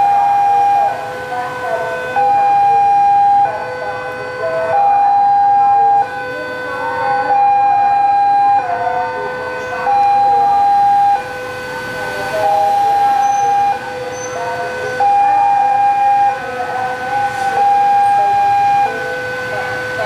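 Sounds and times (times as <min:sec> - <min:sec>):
level crossing warning alarm: 0:00.0 - 0:20.0.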